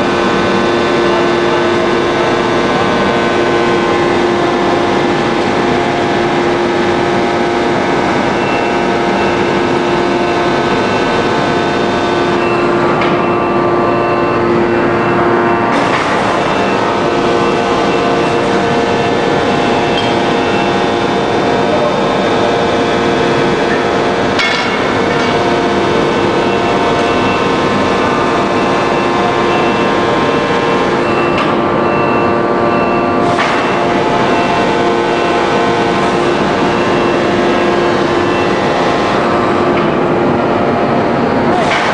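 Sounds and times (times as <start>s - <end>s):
forging press machinery drone: 0.0s - 41.9s
whining machine tones: 0.0s - 41.9s.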